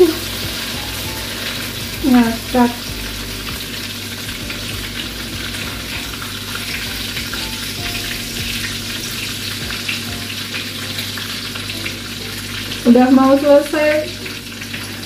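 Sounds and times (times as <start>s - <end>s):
batter sizzling in hot oil: 0.0s - 15.0s.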